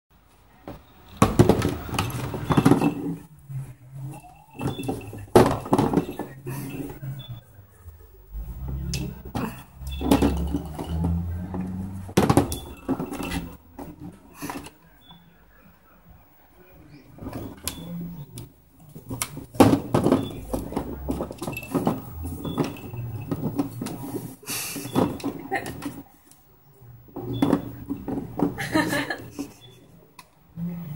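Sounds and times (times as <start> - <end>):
golf balls knocking and rattling: 0.6 - 15.2, 16.9 - 26.4, 27.0 - 30.3.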